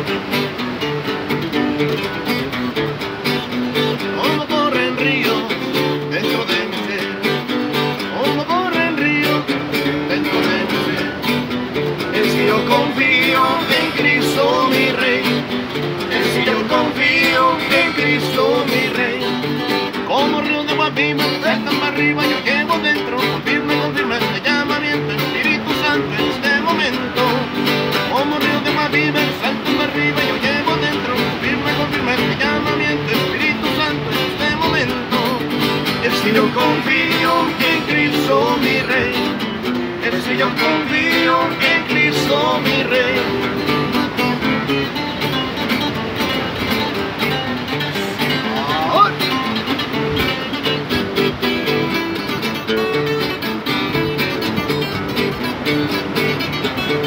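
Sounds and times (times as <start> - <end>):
acoustic guitars strumming: 0.0 - 57.0.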